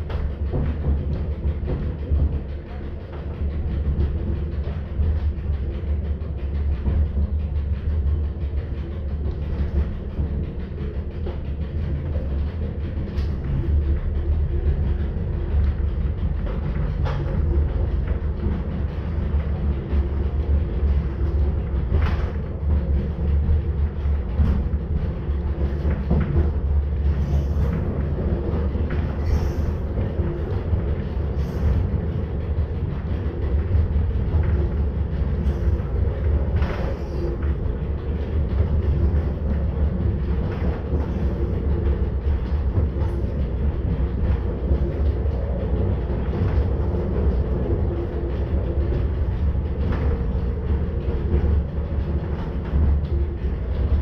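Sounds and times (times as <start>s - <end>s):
train rumble and motor hum: 0.0s - 54.0s.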